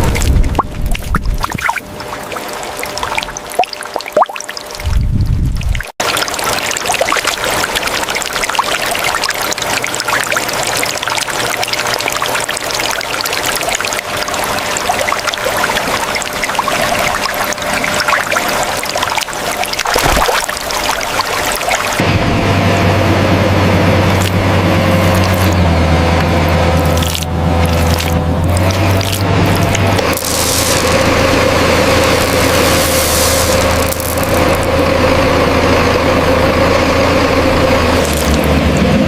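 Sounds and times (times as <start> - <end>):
water pouring and trickling: 0.0 - 22.0, 24.1 - 35.0, 37.8 - 38.9
low machine hum: 0.0 - 39.0.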